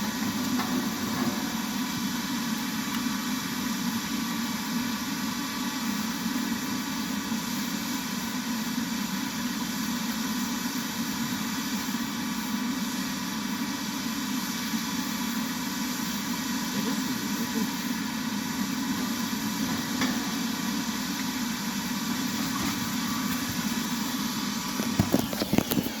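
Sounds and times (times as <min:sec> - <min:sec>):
forge running: 0:00.0 - 0:26.0.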